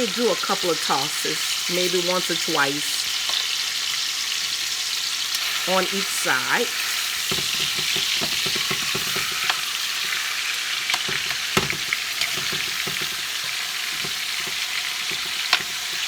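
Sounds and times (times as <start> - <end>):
chicken sizzling in grease: 0.0 - 16.0.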